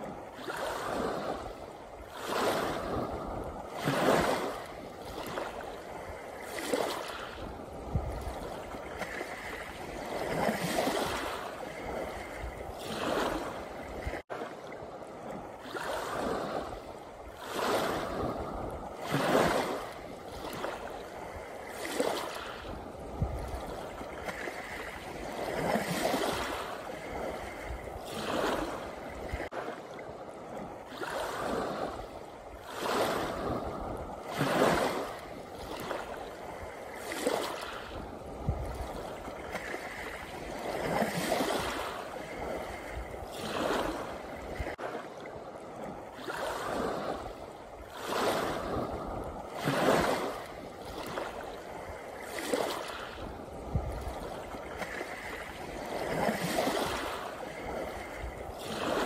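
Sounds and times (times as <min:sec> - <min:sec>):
waves washing up pebble shore: 0:00.0 - 0:14.6, 0:15.5 - 0:59.0.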